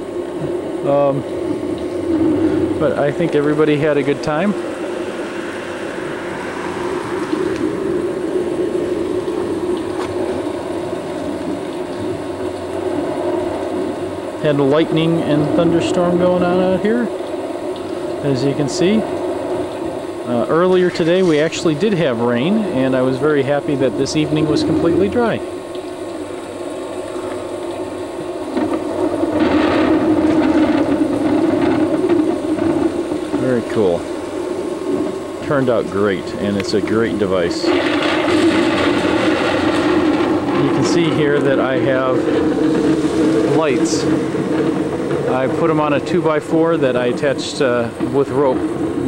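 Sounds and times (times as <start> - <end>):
thunderstorm rumbling hiss: 0.0 - 49.0.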